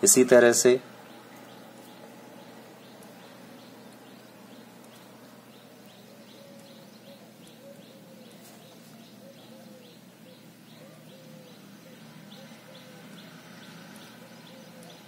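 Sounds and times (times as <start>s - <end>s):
lower repeated bird call: 0.8s - 15.0s.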